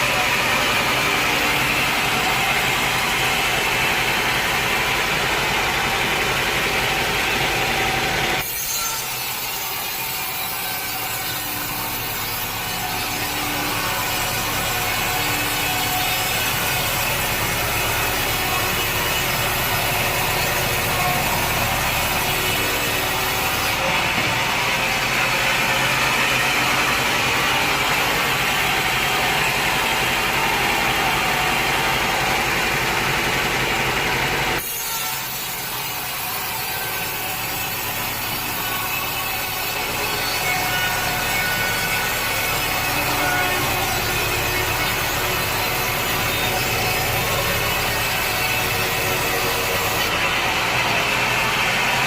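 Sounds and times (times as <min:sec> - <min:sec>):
machinery running: 0:00.0 - 0:52.0
saw blade cutting wood: 0:00.0 - 0:52.0.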